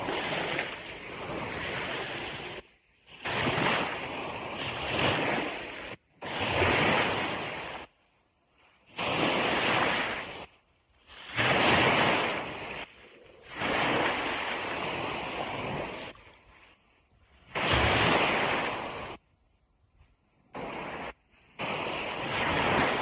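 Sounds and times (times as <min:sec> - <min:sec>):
ocean surf breaking on beach: 0:00.0 - 0:07.9, 0:08.7 - 0:19.2, 0:20.3 - 0:23.0.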